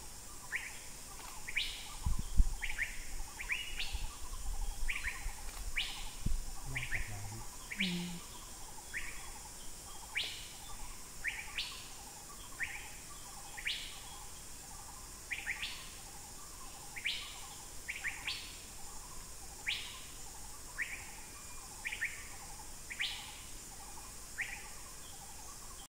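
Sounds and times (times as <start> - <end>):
steady high hiss: 0.0 - 25.9.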